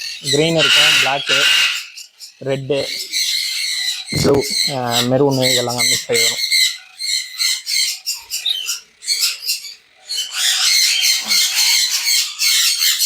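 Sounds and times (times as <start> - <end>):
parrots squawking and screeching: 0.0 - 13.0.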